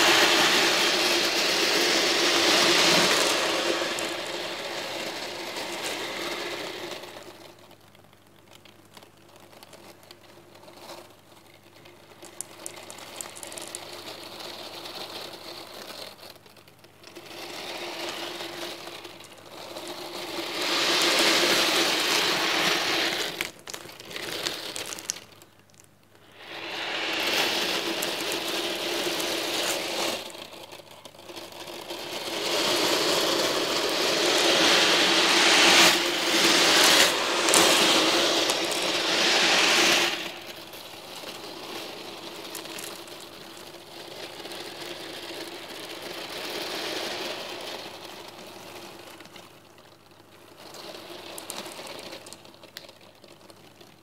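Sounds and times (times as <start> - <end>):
steel balls rattling in a tray: 0.0 - 7.8, 9.6 - 49.7.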